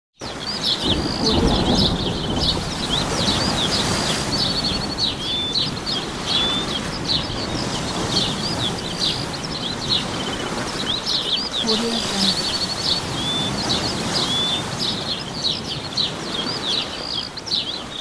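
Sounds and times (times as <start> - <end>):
small birds chirping and whistling: 0.2 - 18.0.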